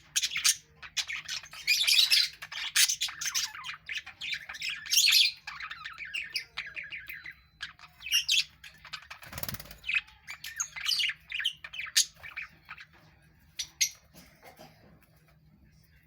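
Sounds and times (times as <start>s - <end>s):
budgerigars chirping and squawking: 0.0s - 16.0s.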